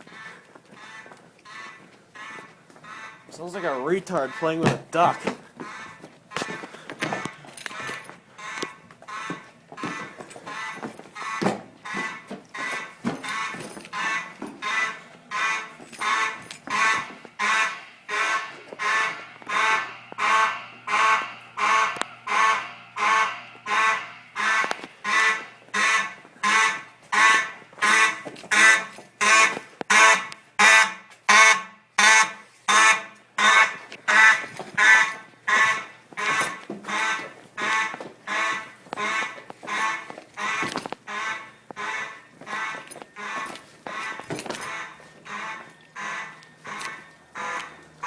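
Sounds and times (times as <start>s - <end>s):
fire alarm horns blasting: 0.0s - 48.0s.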